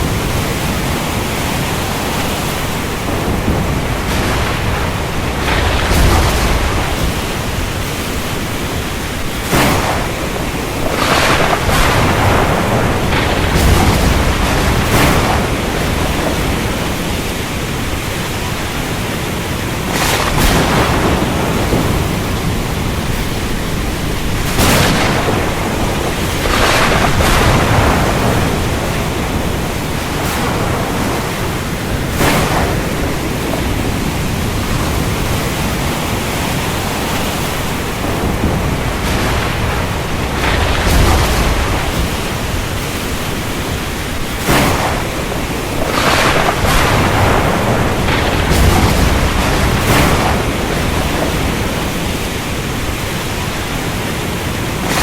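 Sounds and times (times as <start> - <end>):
heavy rain: 0.0 - 55.0
thunder claps: 0.0 - 55.0.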